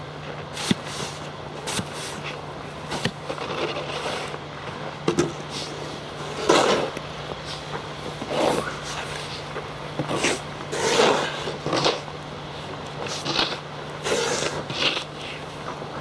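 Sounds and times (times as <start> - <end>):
shovel scraping packed snow: 0.6 - 4.4, 5.5 - 12.1, 13.0 - 15.5.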